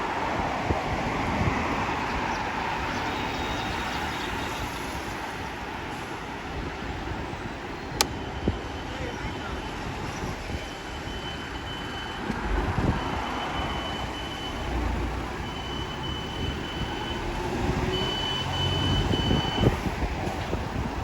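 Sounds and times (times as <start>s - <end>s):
motorbike road noise: 0.0s - 21.0s.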